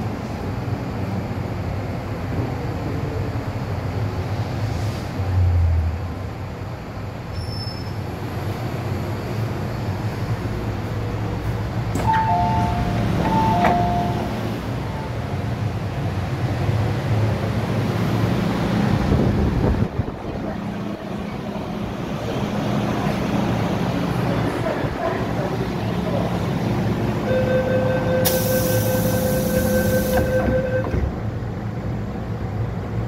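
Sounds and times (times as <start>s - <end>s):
train rumbling through tunnel: 0.0s - 33.0s.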